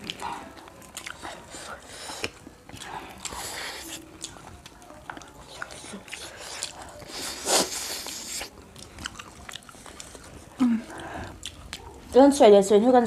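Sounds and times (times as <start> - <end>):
crunching and chewing fried chicken: 0.0 - 12.1.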